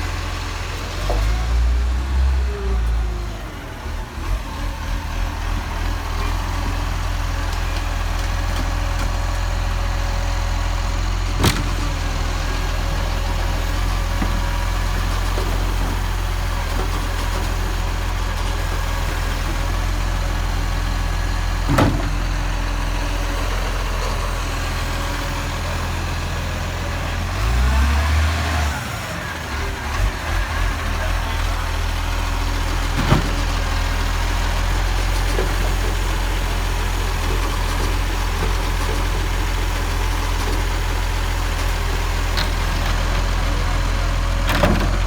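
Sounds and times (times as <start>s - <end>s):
garbage truck engine running: 0.0s - 45.0s.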